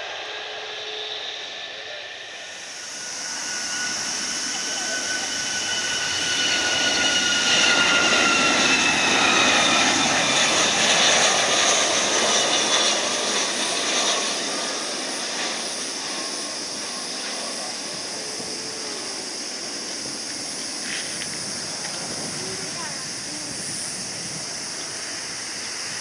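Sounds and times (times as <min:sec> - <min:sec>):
hissing jet rush: 0:00.0 - 0:26.0
jet engines high-pitched whine: 0:00.0 - 0:26.0.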